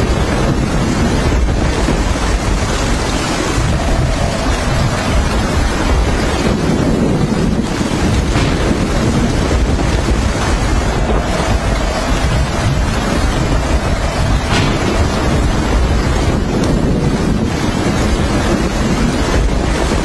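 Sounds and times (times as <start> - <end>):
heavy rain pouring: 0.0 - 20.0
wind buffeting microphone: 0.0 - 20.0.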